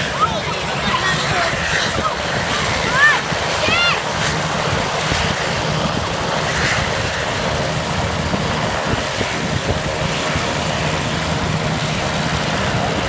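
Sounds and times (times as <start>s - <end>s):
helicopter rotor wash: 0.0s - 13.0s.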